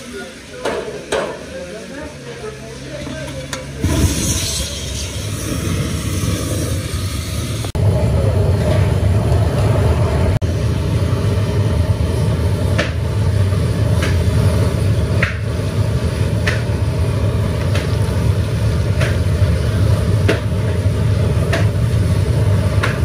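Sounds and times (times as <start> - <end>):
burner roaring: 1.6 - 23.0.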